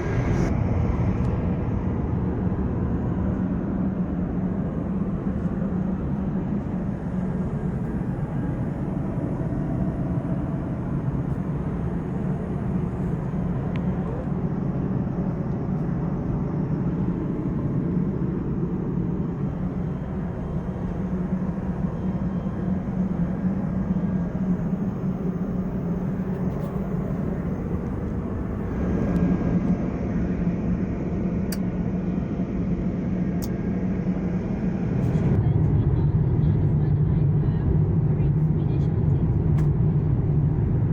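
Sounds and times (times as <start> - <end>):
airliner cabin drone: 0.0 - 40.9.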